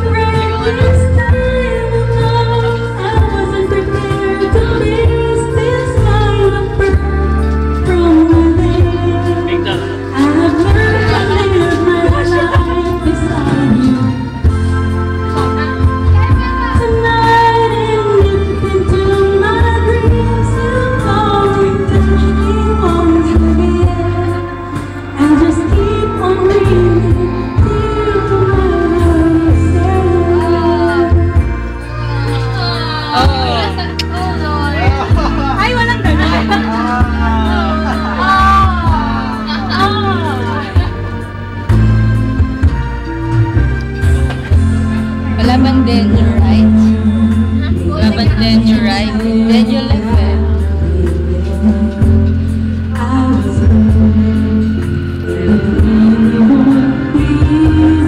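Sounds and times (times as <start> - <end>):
person singing into microphone: 0.0 - 40.9, 45.3 - 58.0
amplified backing music: 0.0 - 58.0.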